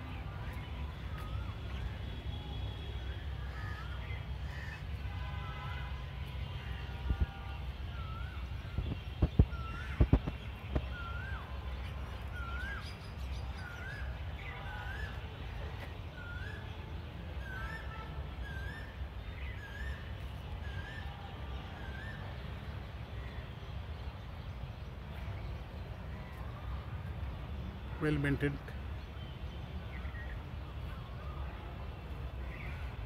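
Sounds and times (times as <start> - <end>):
low rumble of outdoor background: 0.0 - 33.0.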